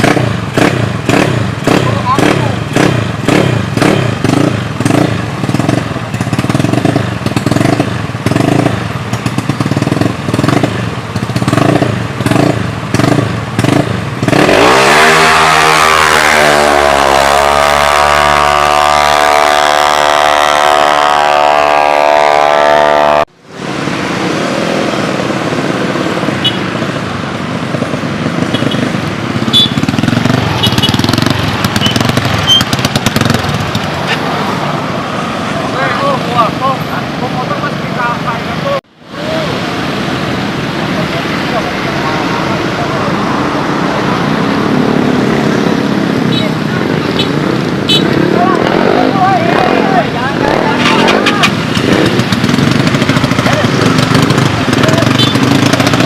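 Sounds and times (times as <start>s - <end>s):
motorcycle engine at full throttle: 0.0s - 56.0s
motorcycle engines revving: 0.0s - 56.0s
outdoor noise: 0.0s - 56.0s.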